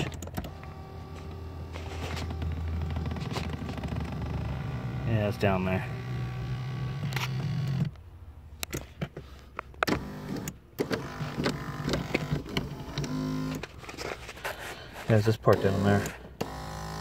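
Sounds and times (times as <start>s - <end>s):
seat motor running: 0.0s - 8.0s, 9.8s - 14.1s, 15.1s - 17.0s.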